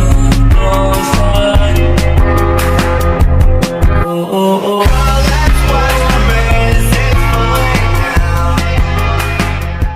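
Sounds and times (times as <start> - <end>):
music with bass and drums: 0.0 - 4.1, 4.8 - 9.9.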